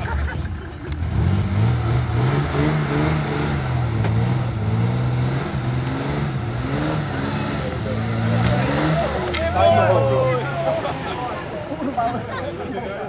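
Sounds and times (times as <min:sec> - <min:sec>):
vehicle engine revving: 0:00.8 - 0:11.5.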